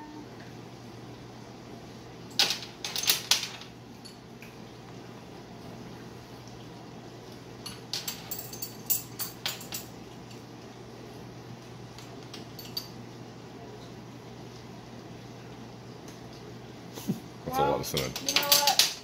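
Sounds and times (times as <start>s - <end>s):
dishwasher and fan hum: 0.0s - 19.0s.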